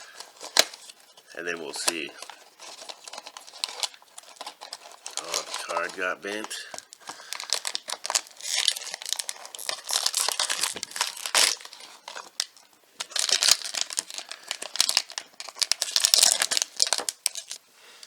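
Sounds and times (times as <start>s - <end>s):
packaging rustling and tearing: 0.0s - 17.6s.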